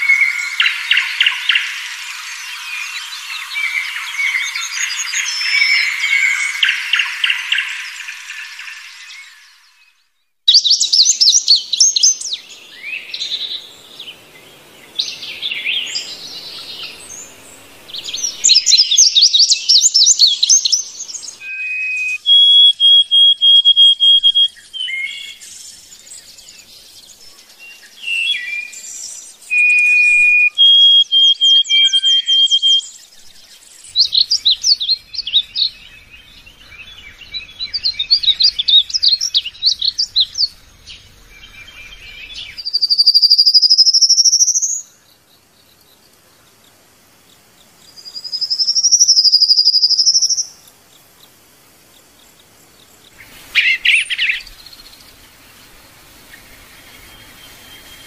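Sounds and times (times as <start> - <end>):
small songbirds singing: 0.0 - 58.0.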